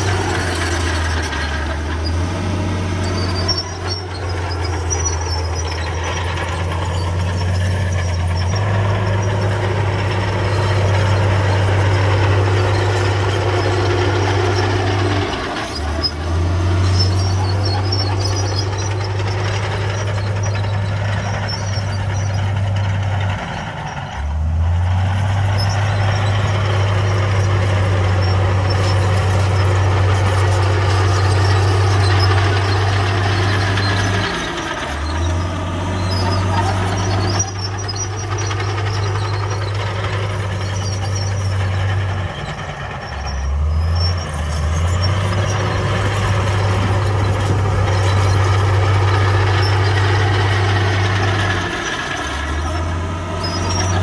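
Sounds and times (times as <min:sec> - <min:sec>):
diesel construction machinery: 0:00.0 - 0:54.0.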